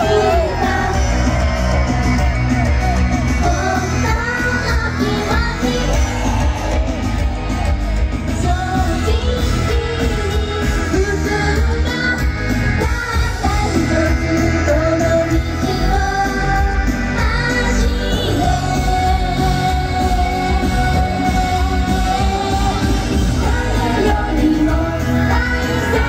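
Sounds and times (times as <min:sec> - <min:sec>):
heavy bass backing track: 0:00.0 - 0:26.0
women singing pop music: 0:00.0 - 0:26.0.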